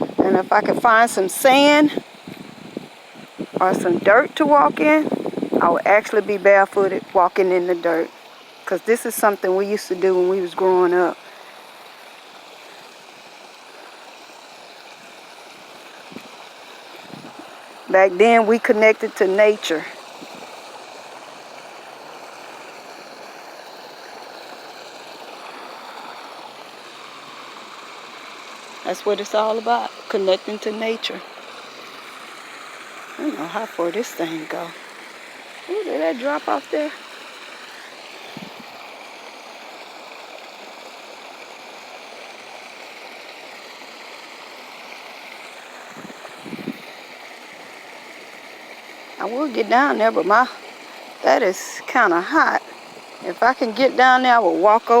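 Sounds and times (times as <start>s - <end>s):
water flowing from small waterfall: 0.0s - 55.0s.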